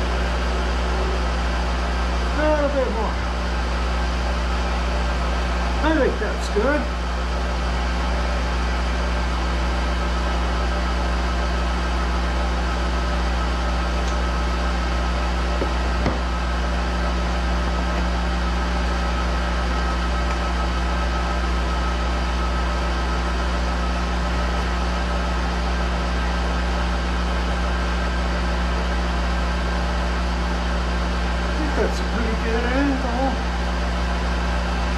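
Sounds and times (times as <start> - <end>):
lathe humming with high whine: 0.0 - 34.9.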